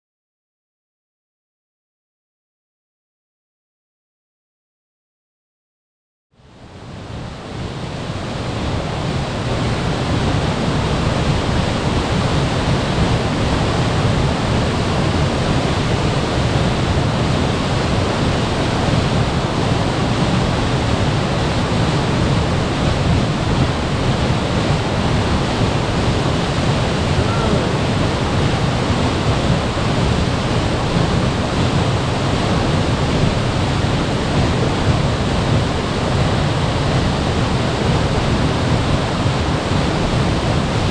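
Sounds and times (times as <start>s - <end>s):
waterfall rushing: 6.8s - 40.9s.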